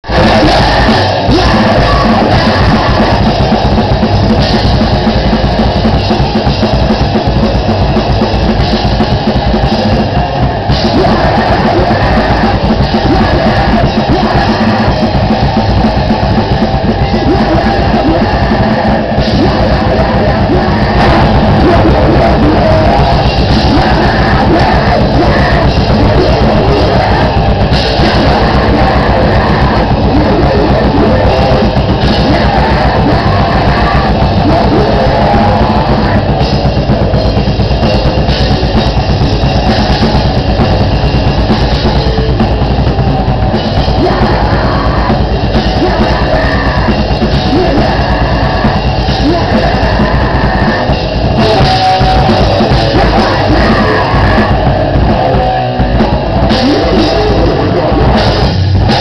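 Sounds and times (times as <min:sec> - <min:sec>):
distorted guitar: 0:00.0 - 0:59.0
drum kit: 0:00.0 - 0:59.0
vocals: 0:00.0 - 0:59.0.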